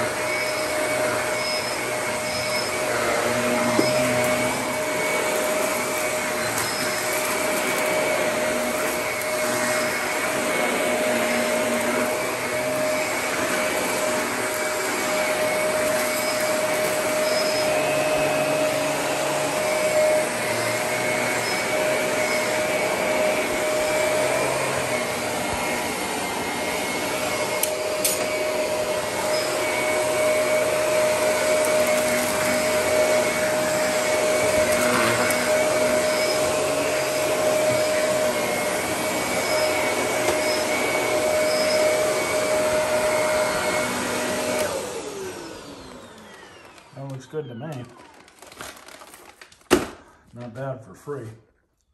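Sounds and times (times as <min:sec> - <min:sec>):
upright vacuum running on carpet: 0:00.0 - 0:48.4.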